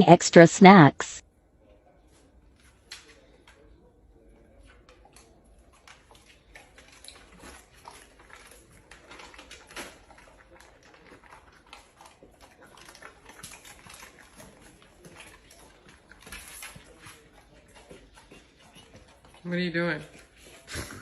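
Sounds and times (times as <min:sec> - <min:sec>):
soft animal clicks and pattering: 0:02.0 - 0:20.8.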